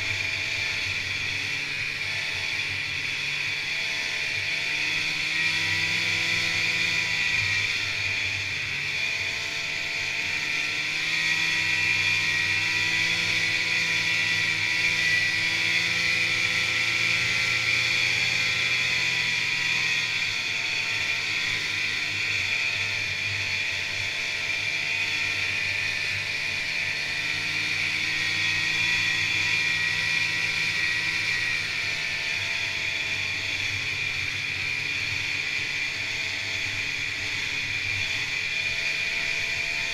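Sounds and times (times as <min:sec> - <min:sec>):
snowmobile engine drone: 0:00.0 - 0:39.9.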